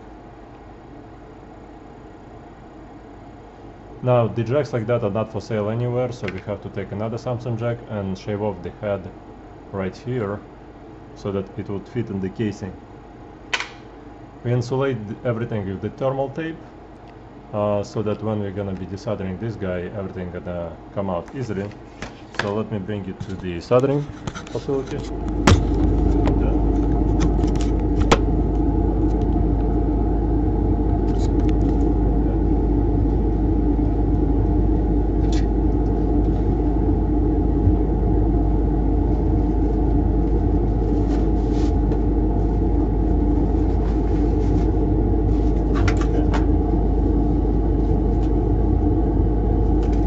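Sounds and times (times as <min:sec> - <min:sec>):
machine low drone: 0:00.0 - 0:21.8, 0:22.5 - 0:50.0.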